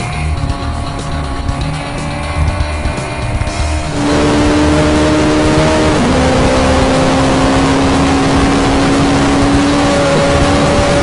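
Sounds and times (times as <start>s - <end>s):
motorcycle engine at high revs: 0.0s - 11.0s.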